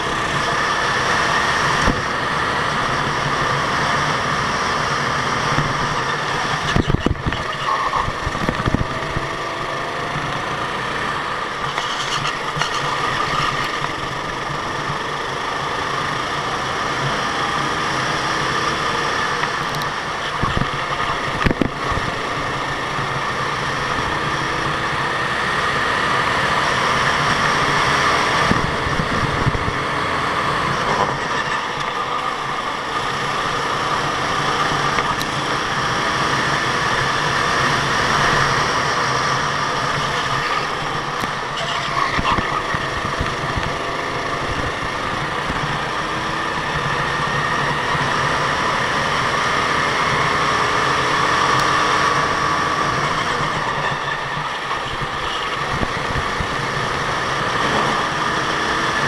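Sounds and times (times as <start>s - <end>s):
go-kart engine whining: 0.0s - 59.0s.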